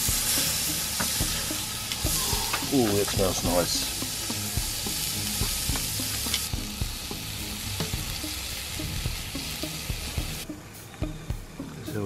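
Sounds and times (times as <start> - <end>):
steak sizzling on a grill: 0.0 - 10.4.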